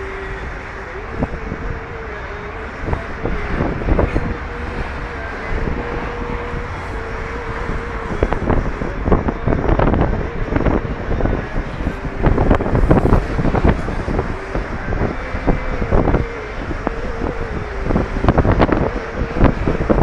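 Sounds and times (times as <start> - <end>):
held wavering note: 0.0 - 20.0
traffic noise: 0.0 - 20.0
wind on microphone: 0.0 - 20.0.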